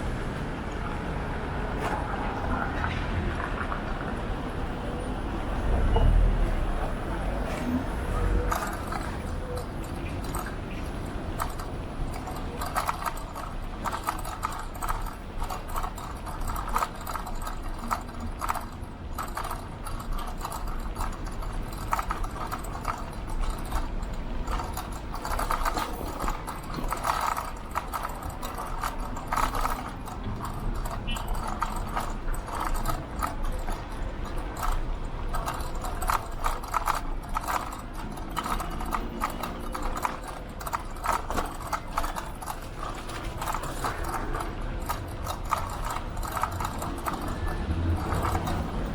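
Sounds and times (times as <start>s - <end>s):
bike rattling over road: 5.5s - 48.9s.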